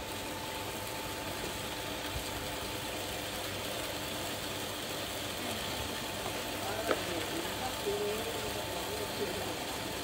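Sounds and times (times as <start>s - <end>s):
constant machine tone: 0.0s - 10.0s
snack extruder machine hum: 0.0s - 10.0s.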